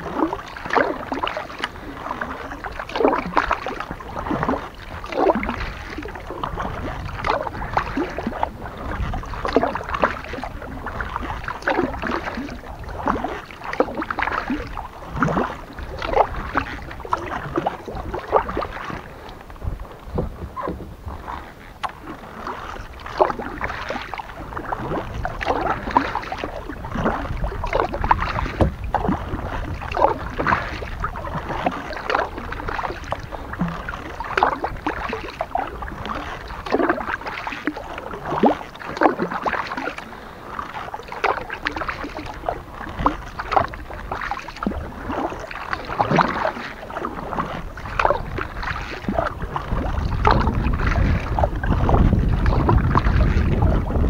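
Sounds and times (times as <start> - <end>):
water dripping off paddle: 0.0 - 53.8
kayak paddle through water: 0.0 - 54.0.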